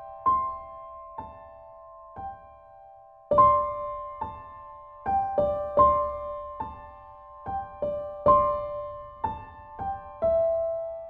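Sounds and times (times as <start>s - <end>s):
slow solo piano: 0.0s - 11.0s.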